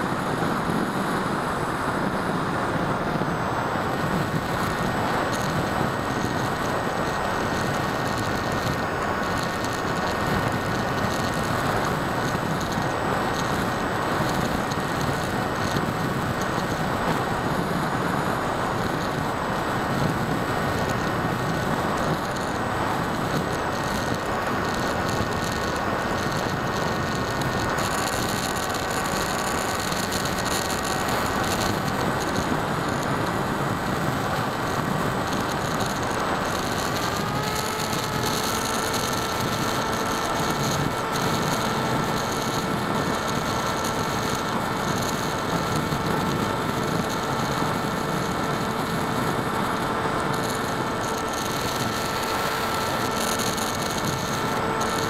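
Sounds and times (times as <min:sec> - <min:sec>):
electric motor whine: 0:00.0 - 0:55.0.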